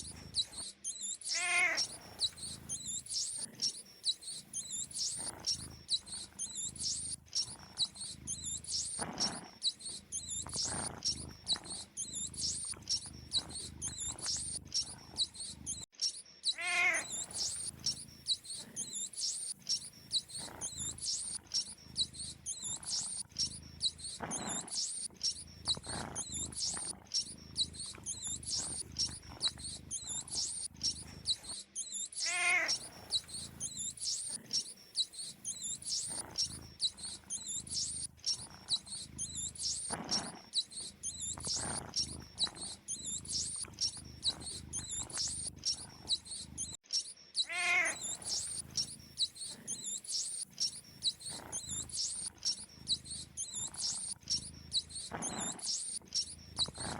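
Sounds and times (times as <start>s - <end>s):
mice squeaking: 0.0s - 56.9s.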